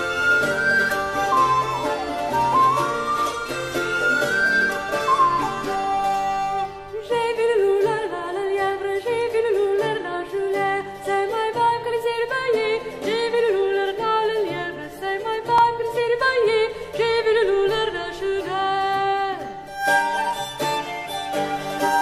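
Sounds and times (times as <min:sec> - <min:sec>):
bowed viol: 0:00.0 - 0:22.0
plucked lutes: 0:00.0 - 0:22.0.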